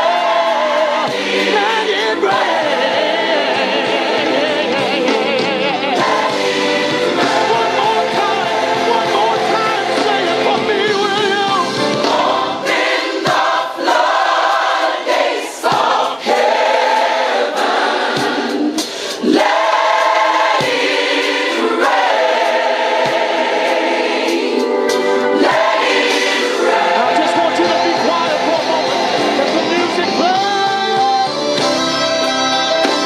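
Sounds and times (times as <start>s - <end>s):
choir singing gospel song: 0.0s - 33.0s.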